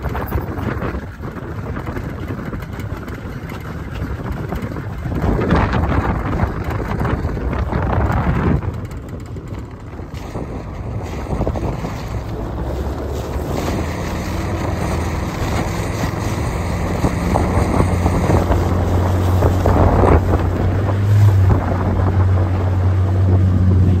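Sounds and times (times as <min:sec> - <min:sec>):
outboard motor humming: 0:00.0 - 0:24.0
wind buffeting microphone: 0:00.0 - 0:24.0.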